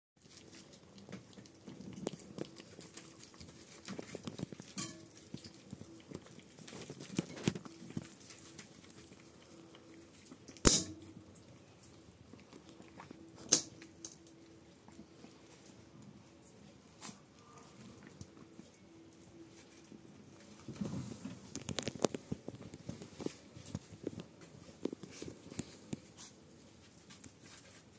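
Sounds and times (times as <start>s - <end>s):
puppies licking and chewing: 0.2s - 27.9s.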